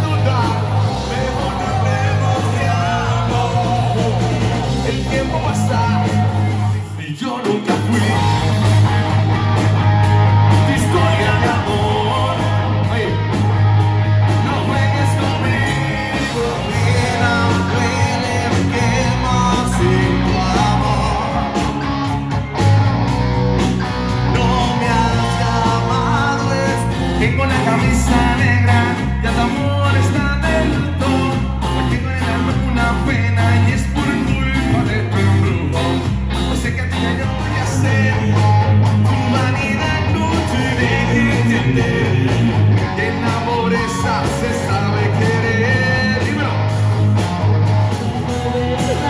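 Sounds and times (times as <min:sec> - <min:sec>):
man singing: 0:00.0 - 0:09.0, 0:10.5 - 0:13.5, 0:14.3 - 0:21.8, 0:24.1 - 0:46.8
live rock band playing: 0:00.0 - 0:49.0.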